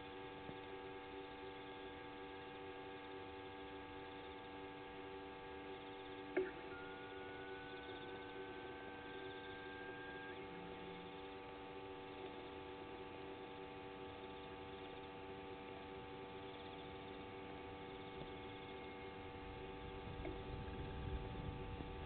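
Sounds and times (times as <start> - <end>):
faint high pulsing trill: 0.0 - 22.0
hum of held tones: 0.0 - 22.0.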